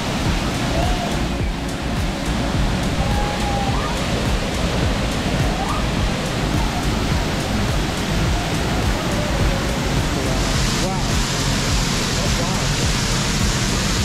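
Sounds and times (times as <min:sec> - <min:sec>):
waterfall rushing and splashing: 0:00.0 - 0:14.0.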